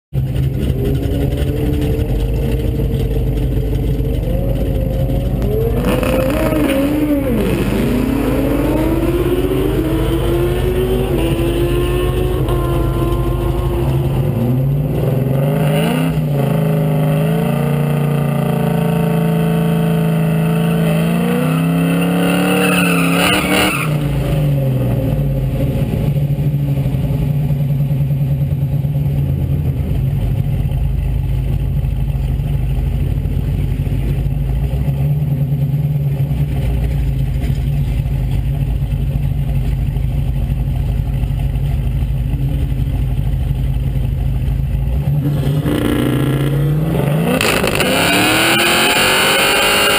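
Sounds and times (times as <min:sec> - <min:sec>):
drag car engine idling and revving: 0:00.1 - 0:49.9.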